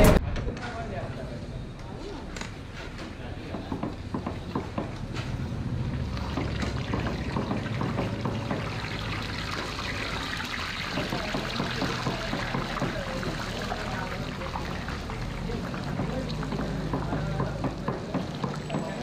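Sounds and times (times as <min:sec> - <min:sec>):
dough deep-frying in hot oil: 0:03.6 - 0:19.0.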